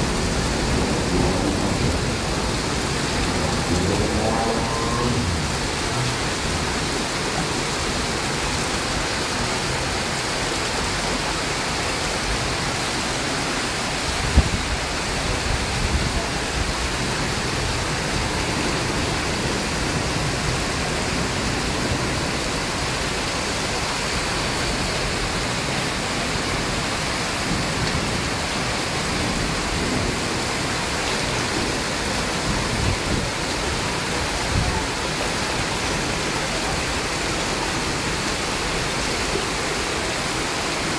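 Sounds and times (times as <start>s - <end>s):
heavy rain: 0.0s - 40.9s
rushing floodwater: 0.0s - 40.9s.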